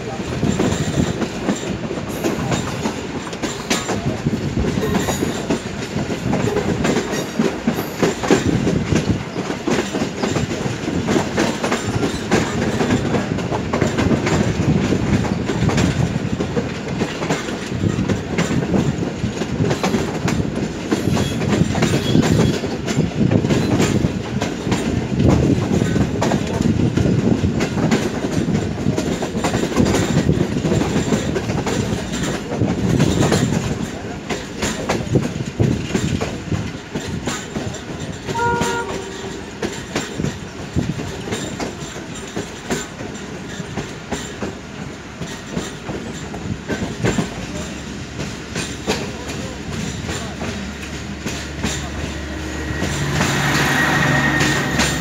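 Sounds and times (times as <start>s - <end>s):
train coaches rumbling on rails: 0.0s - 55.0s.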